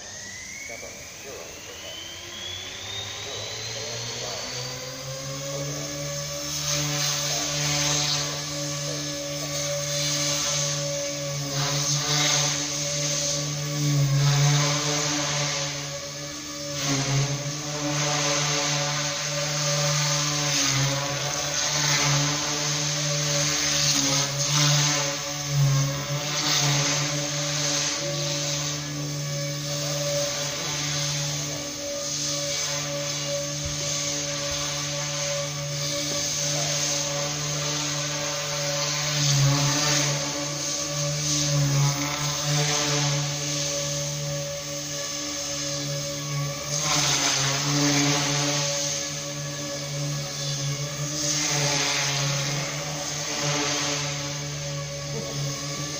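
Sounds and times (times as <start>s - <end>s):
model plane motor buzzing: 0.0s - 55.9s.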